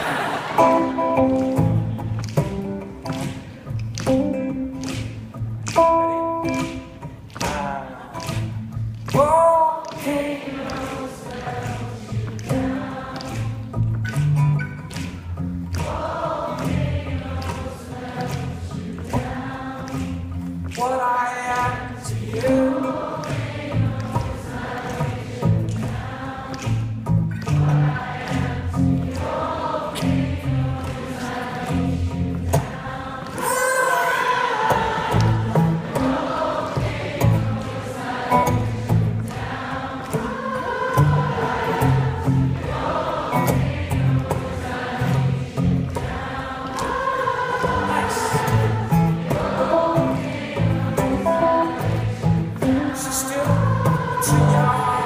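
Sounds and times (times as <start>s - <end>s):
audience singing together: 0.0s - 5.3s, 6.3s - 9.2s, 9.8s - 20.8s, 21.7s - 55.0s
acoustic guitar: 0.0s - 55.0s.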